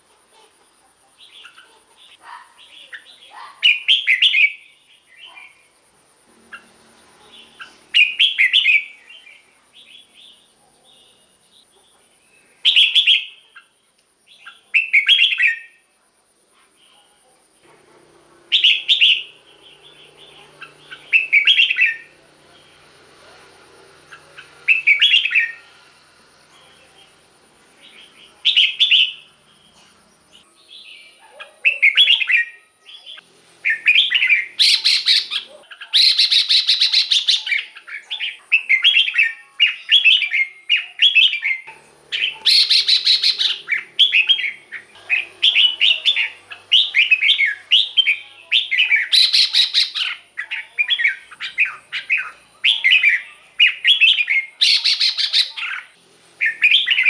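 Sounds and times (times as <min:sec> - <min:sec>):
bird singing warbled phrases: 0:01.1 - 0:05.8, 0:06.4 - 0:15.9, 0:18.5 - 0:57.0.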